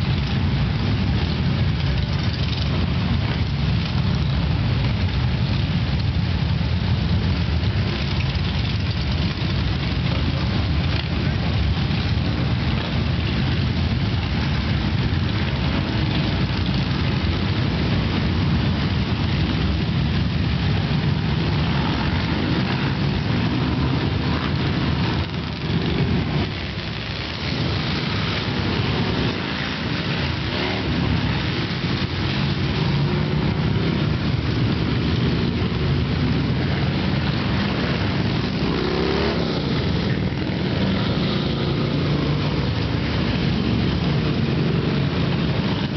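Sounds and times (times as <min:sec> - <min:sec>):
motorcycles riding past: 0:00.0 - 0:45.9.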